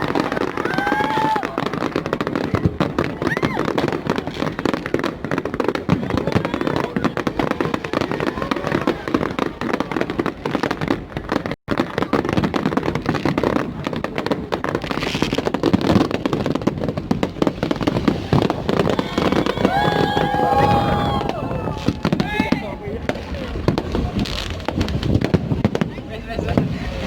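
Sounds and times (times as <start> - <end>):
crowd voices: 0.0 - 12.4, 17.5 - 27.0
fireworks crackling and popping: 0.0 - 27.0.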